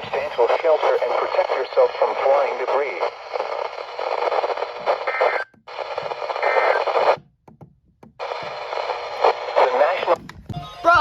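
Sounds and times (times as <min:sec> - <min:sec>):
radio static hiss: 0:00.0 - 0:07.2, 0:08.2 - 0:10.2.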